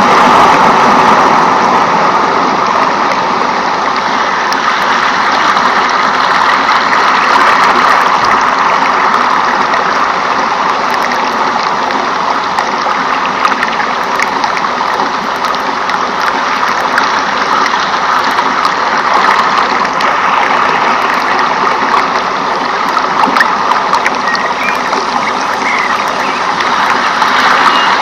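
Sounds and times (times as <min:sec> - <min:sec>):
flowing stream water: 0:00.0 - 0:28.0.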